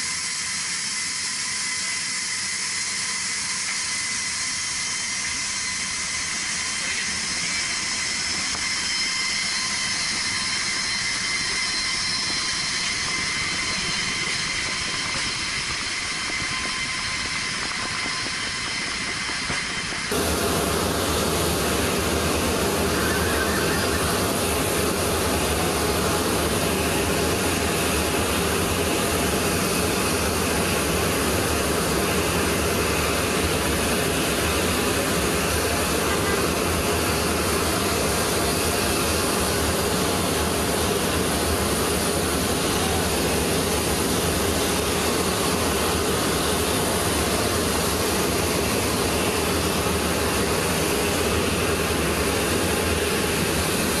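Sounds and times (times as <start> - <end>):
jet turbine whine: 0.0 - 54.0.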